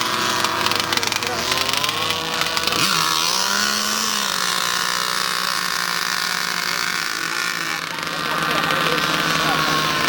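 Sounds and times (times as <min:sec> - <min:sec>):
model boat engine whining: 0:00.0 - 0:10.0.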